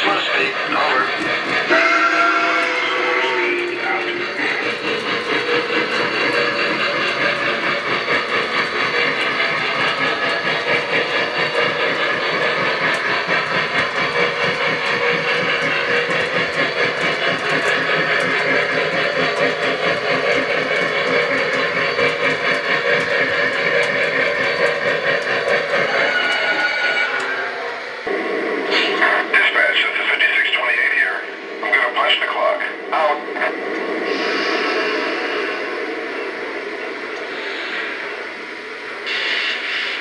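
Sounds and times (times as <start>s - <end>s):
model train running: 0.0s - 40.0s.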